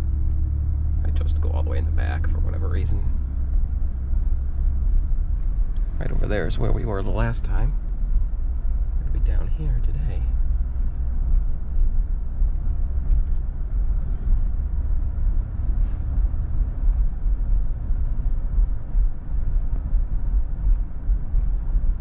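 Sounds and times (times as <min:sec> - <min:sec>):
truck engine rumble and road noise: 0:00.0 - 0:22.0.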